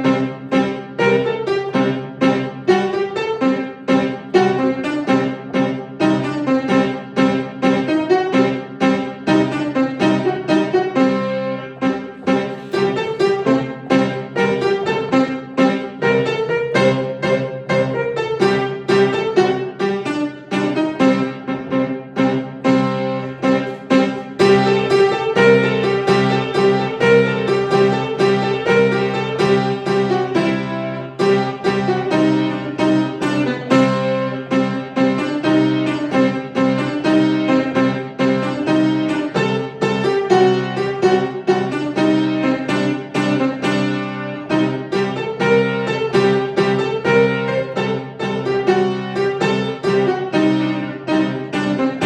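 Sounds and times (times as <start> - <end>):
piano improvisation: 0.0 - 52.0.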